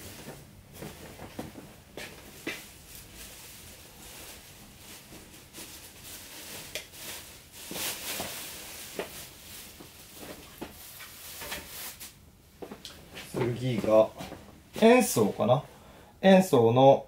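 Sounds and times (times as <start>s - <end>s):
clothes rustling: 0.0s - 15.5s.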